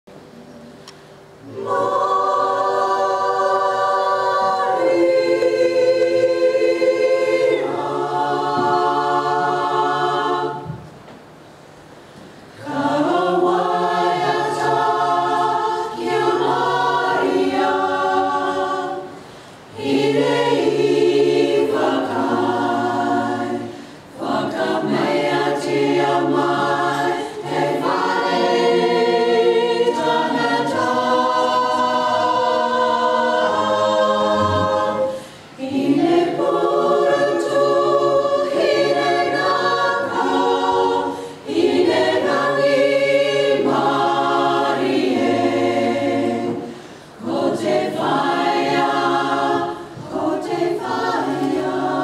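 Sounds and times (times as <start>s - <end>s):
choir singing: 1.2s - 11.0s, 12.5s - 52.0s.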